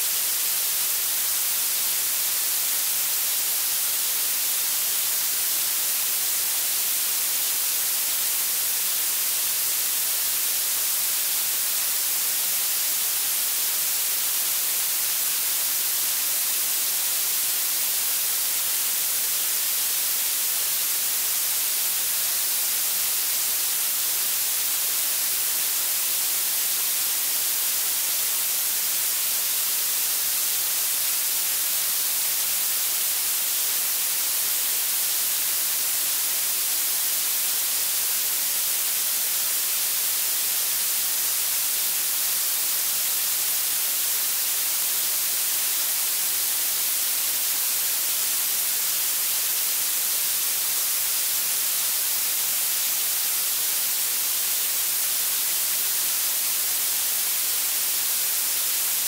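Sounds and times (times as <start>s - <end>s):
bright synthetic hiss: 0.0s - 59.0s.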